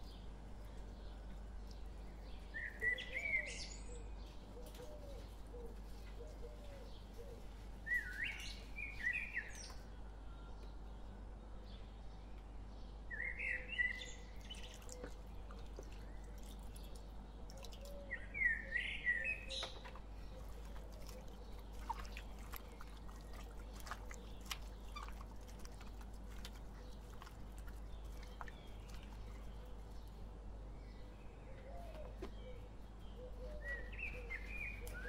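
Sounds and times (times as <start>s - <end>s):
bird chirping: 0.0s - 35.0s
faint steady hum: 0.0s - 35.0s.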